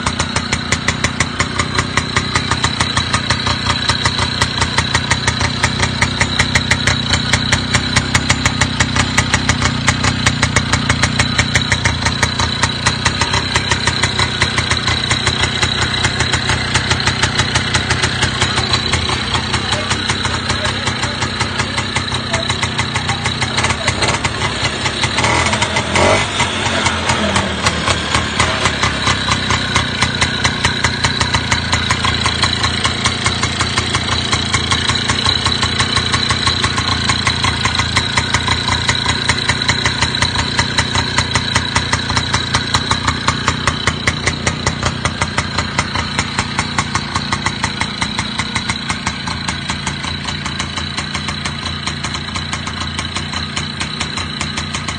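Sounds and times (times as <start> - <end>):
two-stroke motorcycle engine running: 0.0 - 54.9.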